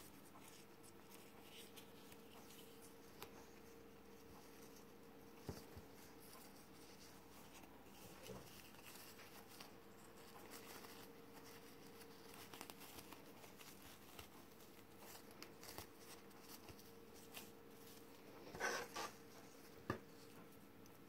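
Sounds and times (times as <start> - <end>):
ribbon rustling: 0.0 - 21.0.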